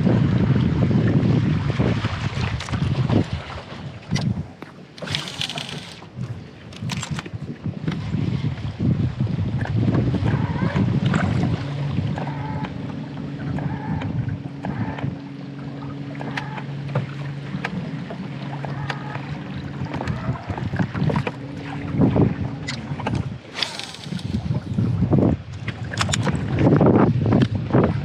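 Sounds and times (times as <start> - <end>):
wind on microphone: 0.0 - 15.2, 19.1 - 28.0
water sloshing against hull: 1.2 - 27.6.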